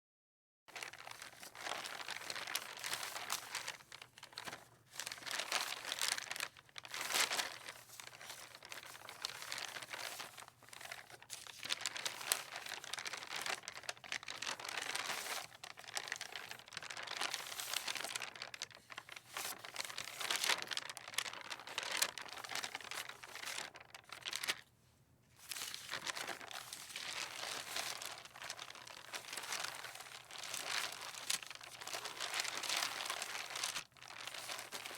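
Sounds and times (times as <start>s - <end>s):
paper rustling in wind: 0.7s - 24.7s, 25.4s - 34.9s.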